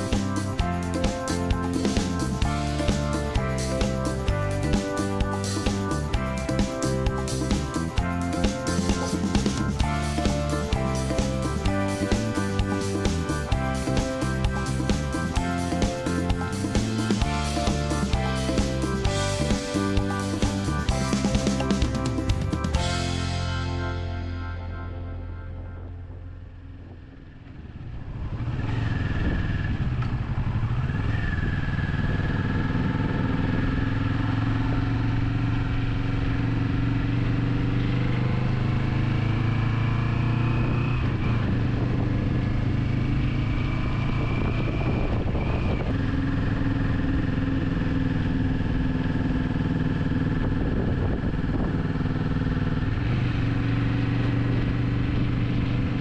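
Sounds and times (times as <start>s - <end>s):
motorcycle engine running: 0.0s - 56.0s
road and wind rush: 0.0s - 56.0s.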